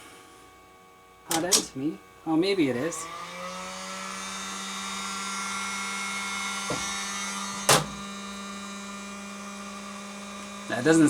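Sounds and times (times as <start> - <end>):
printer cooling fans humming: 0.0 - 11.0.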